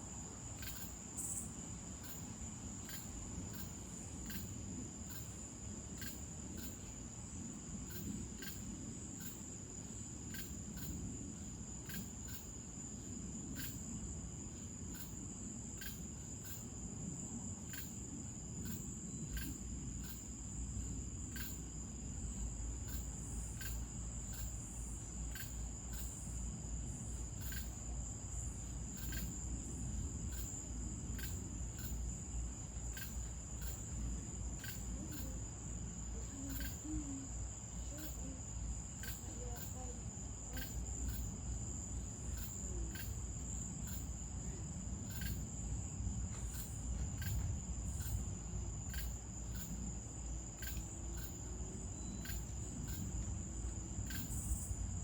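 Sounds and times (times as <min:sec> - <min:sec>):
crickets trilling: 0:00.0 - 0:55.0
insect chirp: 0:00.0 - 0:55.0.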